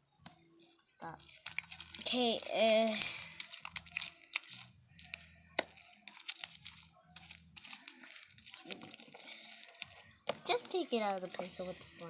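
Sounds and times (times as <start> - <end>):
slime kneaded by hand: 0.2 - 12.0.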